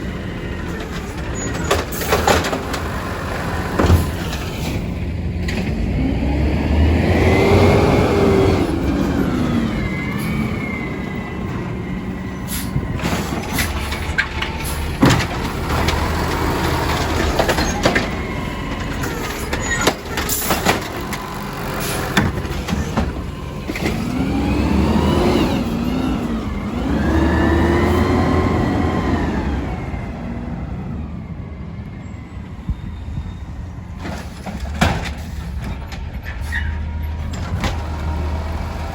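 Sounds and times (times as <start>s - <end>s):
garbage truck engine revving: 0.0s - 31.4s, 33.9s - 38.9s.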